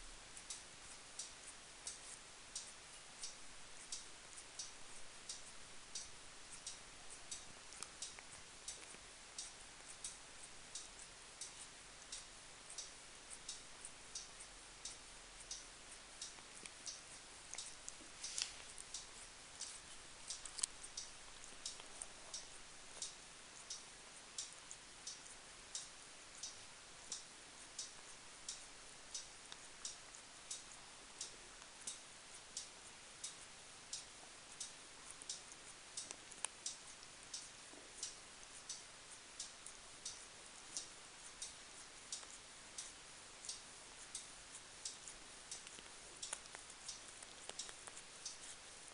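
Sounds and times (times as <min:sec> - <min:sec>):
cat licking its fur: 0:00.3 - 0:05.8, 0:06.4 - 0:15.0, 0:15.6 - 0:48.9.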